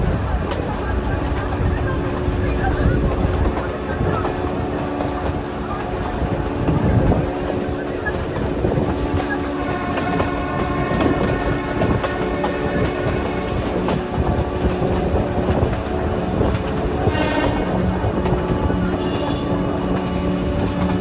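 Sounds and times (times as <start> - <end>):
train wheels clicking on track: 0.0 - 21.0.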